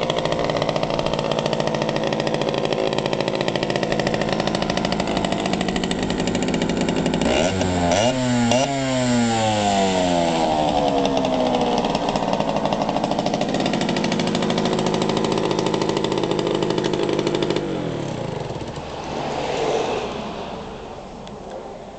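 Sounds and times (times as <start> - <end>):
motorcycle engine revving and idling: 0.0 - 21.9.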